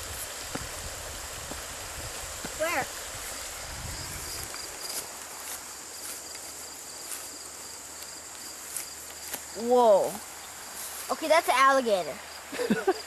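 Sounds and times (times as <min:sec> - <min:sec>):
insects trilling: 0:00.0 - 0:13.0
steady hiss: 0:00.0 - 0:13.0.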